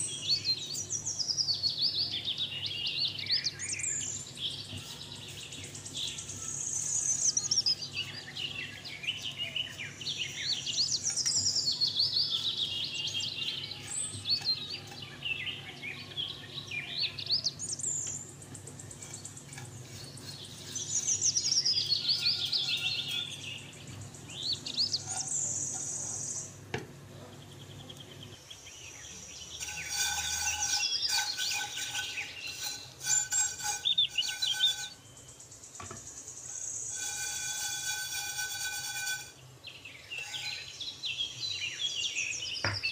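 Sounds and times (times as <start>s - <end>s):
birds singing: 0.0s - 42.9s.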